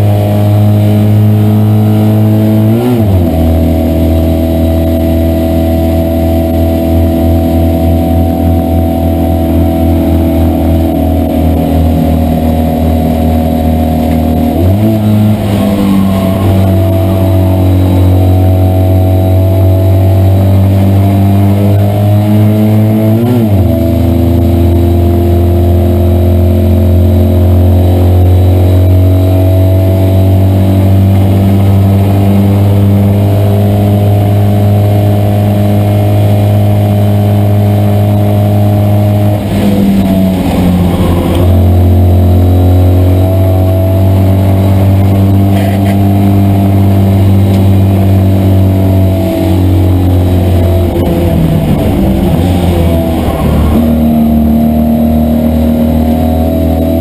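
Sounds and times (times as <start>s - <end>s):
car engine running hard: 0.0s - 57.0s.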